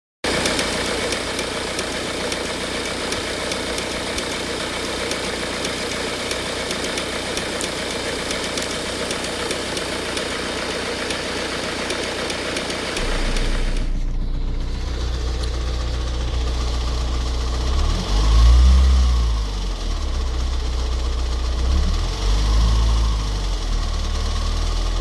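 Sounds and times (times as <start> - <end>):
diesel engine idling with ticking: 0.3 - 25.0.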